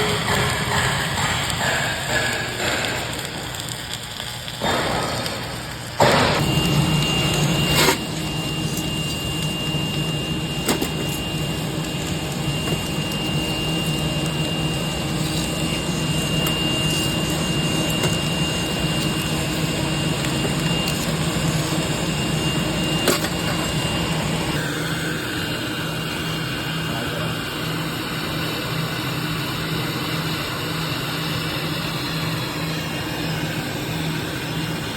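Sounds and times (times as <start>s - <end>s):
welding machine hum and whine: 0.0s - 34.9s.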